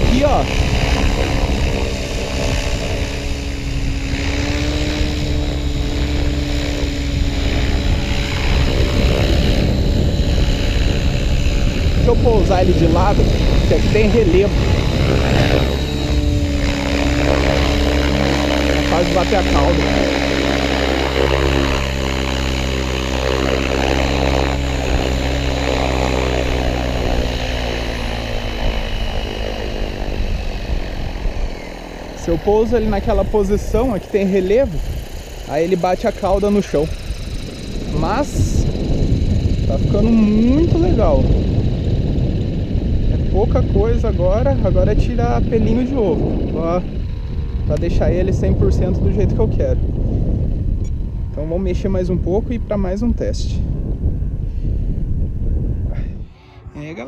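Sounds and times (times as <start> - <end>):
electric motor whine: 0.0 - 57.0
model helicopter rotor whirring: 0.0 - 57.0.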